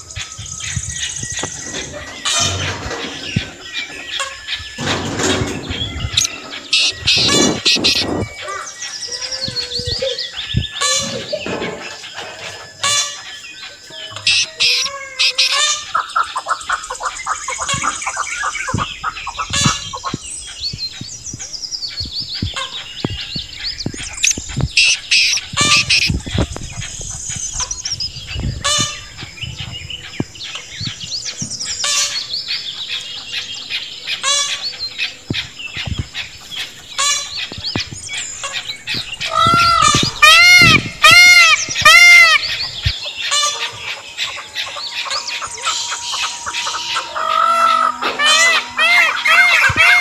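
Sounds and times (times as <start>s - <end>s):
loud repeated arching bird call: 0.0s - 20.7s, 21.4s - 31.0s, 31.7s - 50.0s
birds chirping and whistling: 0.0s - 50.0s.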